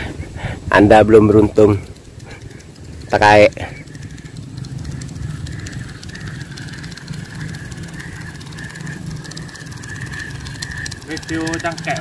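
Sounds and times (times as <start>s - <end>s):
steady high-pitched drone: 0.0s - 12.0s.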